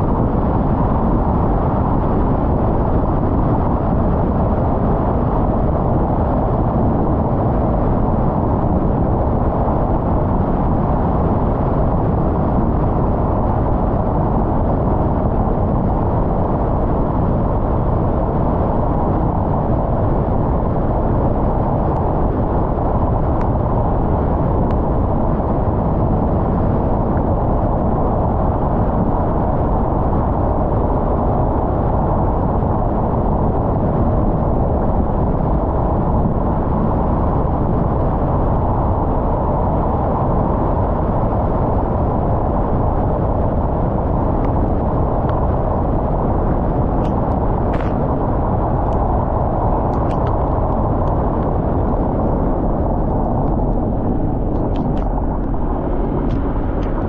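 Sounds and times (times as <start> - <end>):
car driving road rumble: 4.5 - 57.0.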